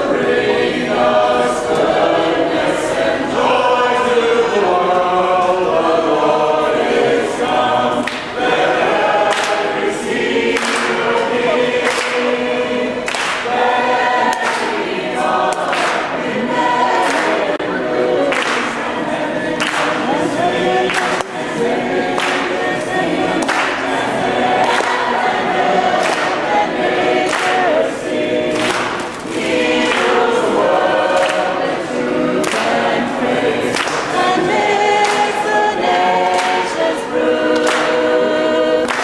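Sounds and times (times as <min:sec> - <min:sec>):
group singing a carol: 0:00.0 - 0:39.0.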